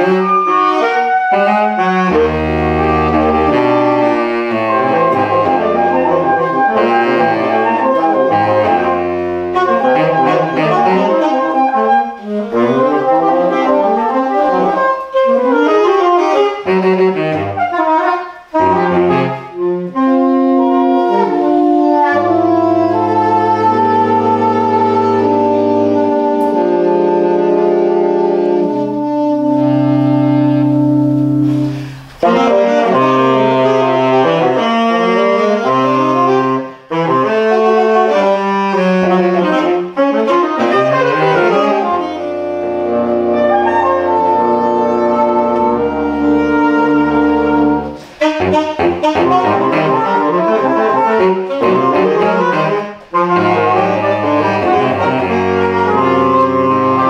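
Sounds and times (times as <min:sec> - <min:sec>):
saxophone quartet playing: 0:00.0 - 0:57.0.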